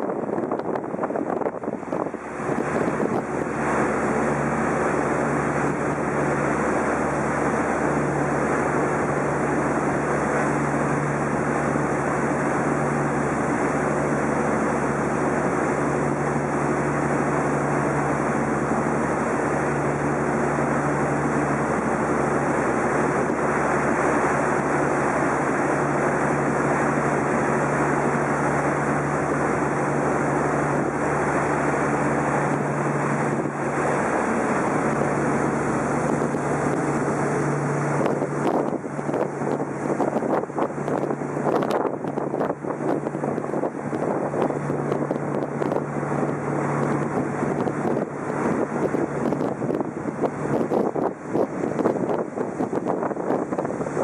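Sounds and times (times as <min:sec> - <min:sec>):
boat engine droning: 0:00.0 - 0:54.0
water washing along hull: 0:00.0 - 0:54.0
wind on microphone: 0:00.0 - 0:54.0.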